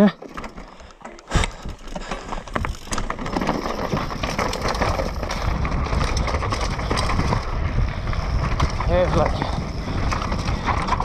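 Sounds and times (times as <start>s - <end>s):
bike clicks and rattles: 0.0s - 11.0s
tyres crunching over stones: 0.2s - 11.0s.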